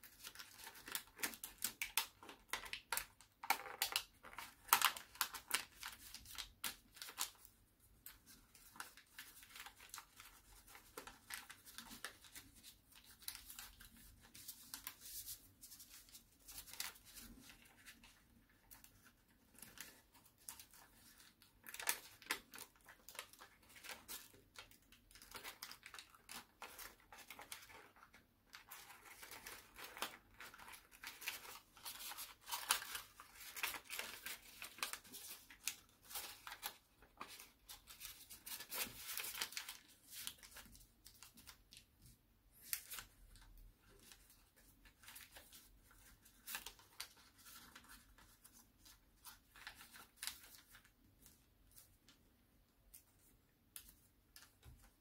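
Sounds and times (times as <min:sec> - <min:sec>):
paper crinkling being folded: 0:00.0 - 0:55.0.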